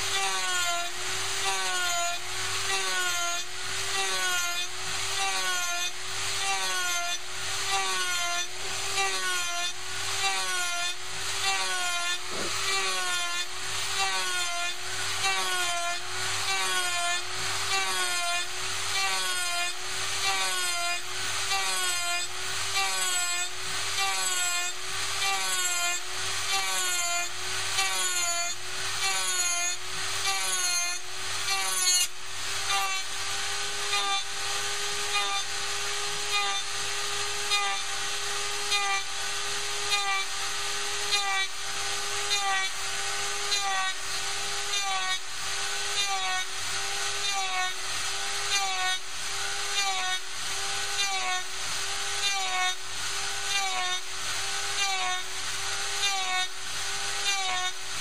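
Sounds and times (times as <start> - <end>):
router whining while cutting wood: 0.0 - 58.0.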